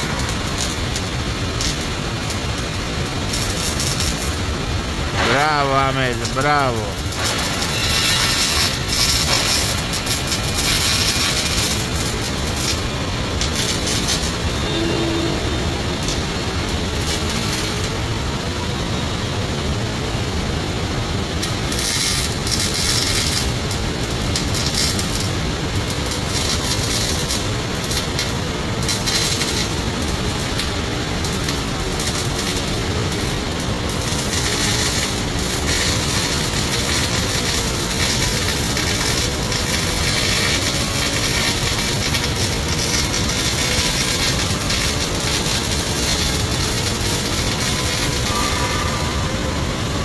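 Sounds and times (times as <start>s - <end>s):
welding arc crackling and hissing: 0.0s - 50.0s
workshop machinery rumble: 0.0s - 50.0s.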